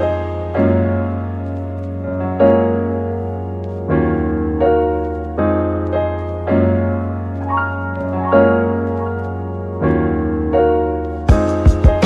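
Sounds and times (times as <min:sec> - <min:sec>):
soft piano chords: 0:00.0 - 0:12.0.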